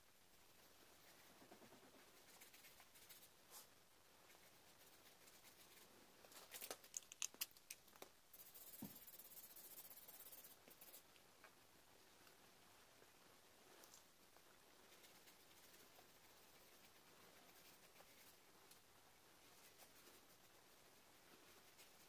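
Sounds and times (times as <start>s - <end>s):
soft hiss: 0.0s - 22.0s
faint scratching: 0.3s - 7.5s, 8.3s - 11.2s, 13.6s - 22.0s.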